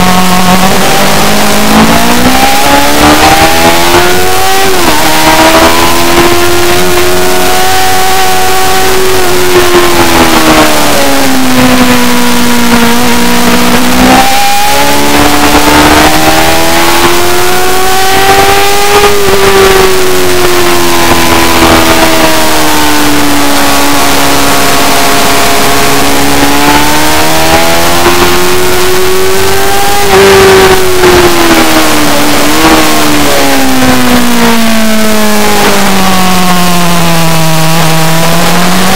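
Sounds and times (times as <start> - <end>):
motorbike engine revving high: 0.0 - 38.9
steady rushing noise: 0.0 - 38.9.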